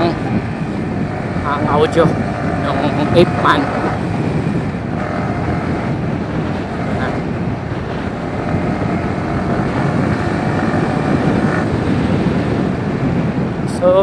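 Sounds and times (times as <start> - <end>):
motorcycle engine running: 0.0 - 13.7
wind noise: 0.0 - 14.0.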